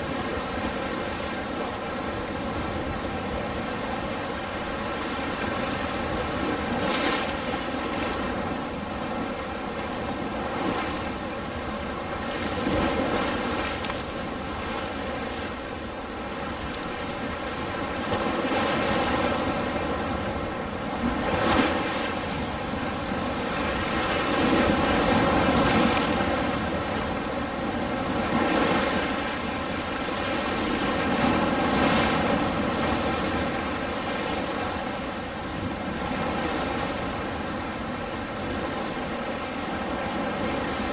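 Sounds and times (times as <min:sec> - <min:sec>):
ocean waves on shore: 0:00.0 - 0:40.9.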